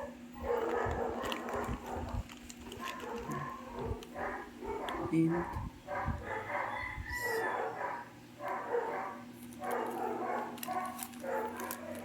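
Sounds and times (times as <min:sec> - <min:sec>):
dog barking: 0:00.0 - 0:02.1, 0:02.8 - 0:12.0.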